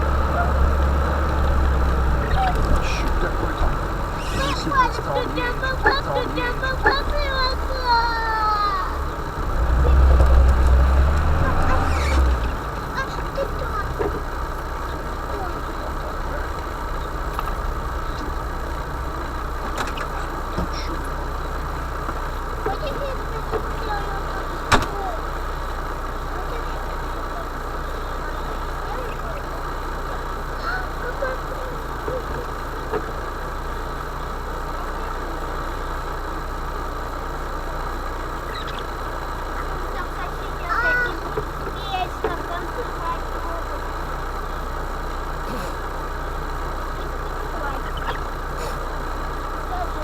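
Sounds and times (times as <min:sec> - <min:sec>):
vehicle engine running: 0:00.0 - 0:50.0.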